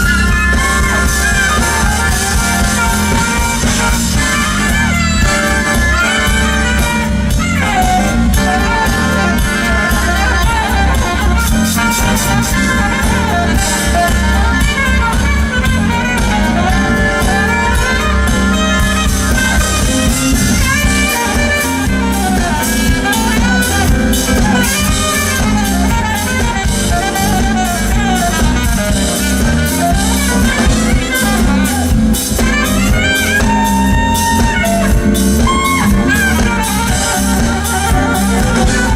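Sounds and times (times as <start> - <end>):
drum kit: 0.0 - 38.9
saxophone melody: 0.0 - 38.9.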